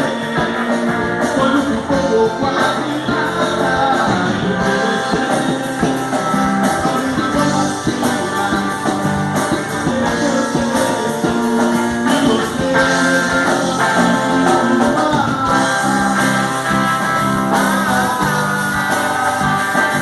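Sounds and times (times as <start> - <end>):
plucked guitar music: 0.0 - 20.0.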